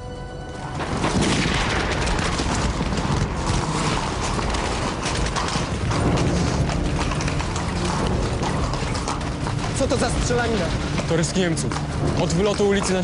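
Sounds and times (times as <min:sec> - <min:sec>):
dense gunfire: 0:00.8 - 0:12.2.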